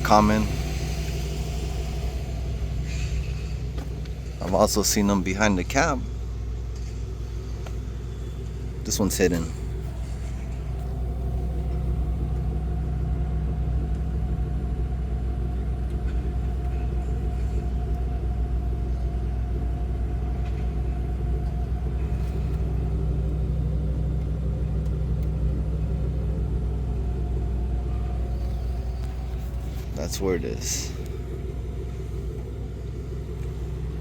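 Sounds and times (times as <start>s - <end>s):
garbage truck engine idling: 0.0s - 34.0s.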